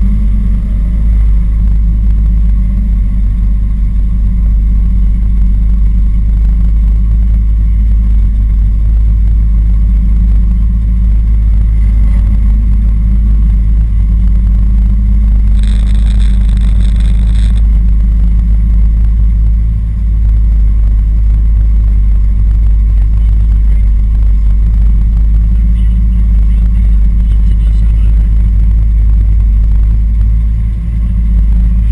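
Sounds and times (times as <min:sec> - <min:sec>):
race car engine rumbling: 0:00.0 - 0:31.9.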